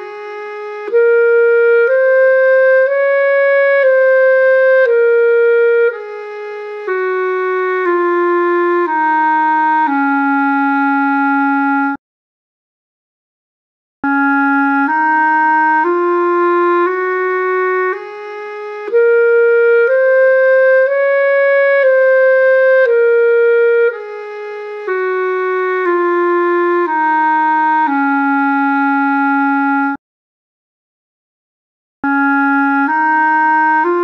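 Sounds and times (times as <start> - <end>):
clarinet playing a scale: 0.0 - 12.0, 14.0 - 30.0, 32.0 - 34.0.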